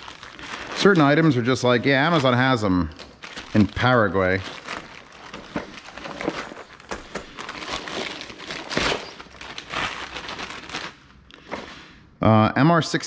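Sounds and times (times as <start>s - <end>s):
plastic mailer bag crinkling: 0.0s - 11.8s.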